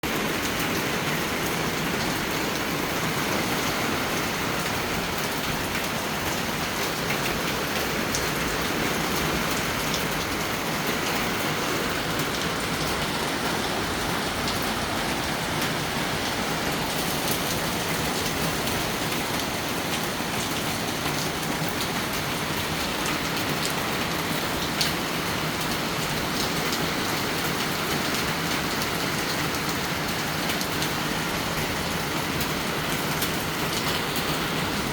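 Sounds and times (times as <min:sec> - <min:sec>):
raindrops ticking on surfaces: 0:00.0 - 0:34.9
steady rain hiss: 0:00.1 - 0:34.9.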